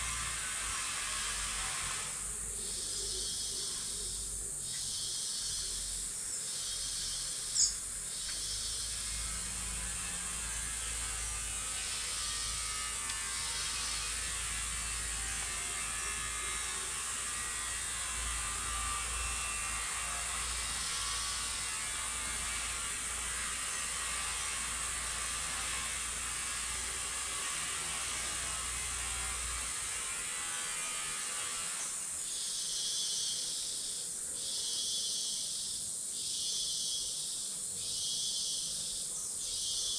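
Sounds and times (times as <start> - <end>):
high insect hiss: 0.0 - 39.9
pulsing insect chorus: 0.0 - 39.9.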